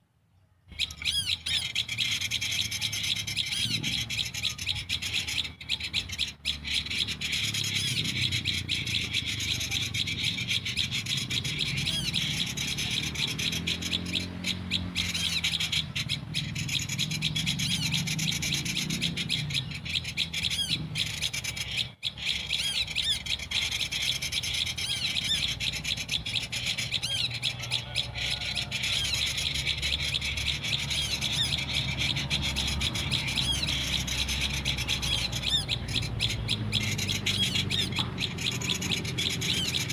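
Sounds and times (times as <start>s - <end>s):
bird chattering calls: 0.7s - 39.9s.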